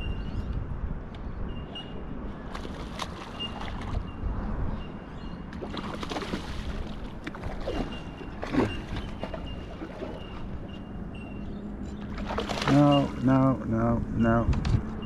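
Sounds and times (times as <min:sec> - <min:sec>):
water splashing and sloshing: 0:01.8 - 0:15.0.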